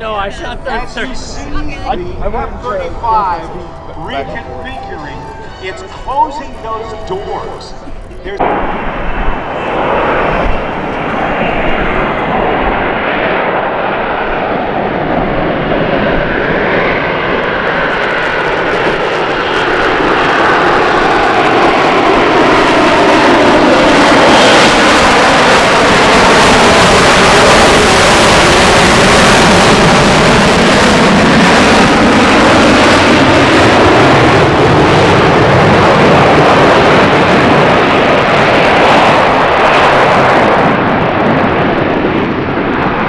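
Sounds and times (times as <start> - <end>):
jet engine roaring: 0.0 - 43.0.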